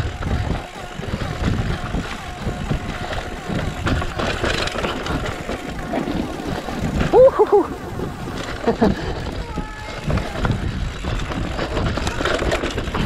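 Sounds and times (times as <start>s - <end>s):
bike rattles and knocks: 0.0s - 13.0s
bike tyres rumbling on rough ground: 0.0s - 13.0s.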